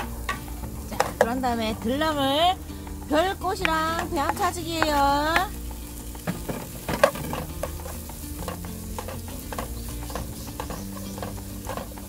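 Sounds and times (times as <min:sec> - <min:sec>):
light sizzle: 0:00.0 - 0:12.0
wooden spatula scraping a frying pan: 0:00.0 - 0:12.0.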